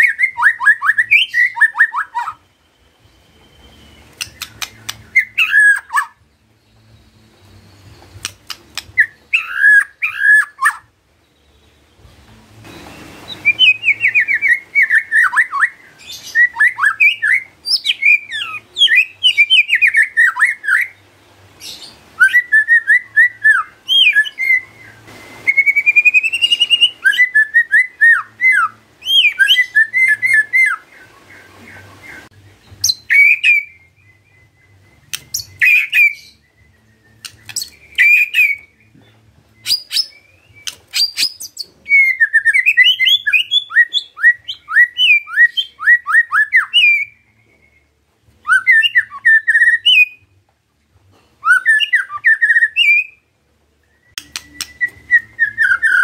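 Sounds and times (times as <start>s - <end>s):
bird singing whistled phrases: 0.0s - 11.8s, 12.6s - 21.0s, 21.6s - 50.4s, 51.4s - 56.0s.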